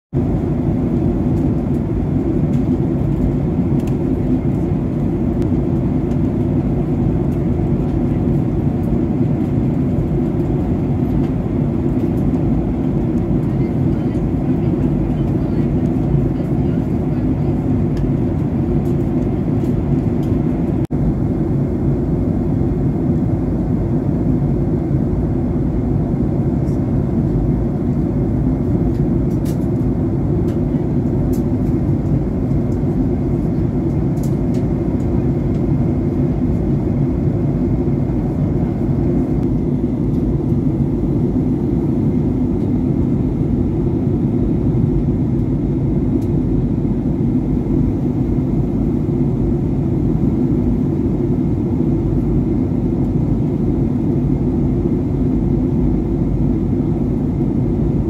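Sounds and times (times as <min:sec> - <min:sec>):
aircraft cabin engine rumble: 0:00.1 - 0:58.0.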